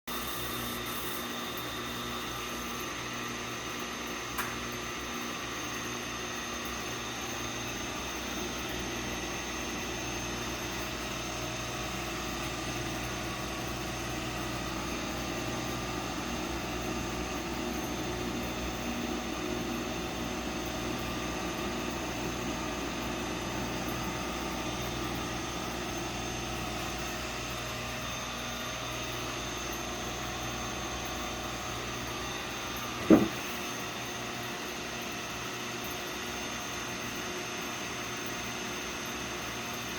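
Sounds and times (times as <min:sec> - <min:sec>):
coffee roasting machine hum: 0:00.1 - 0:39.9.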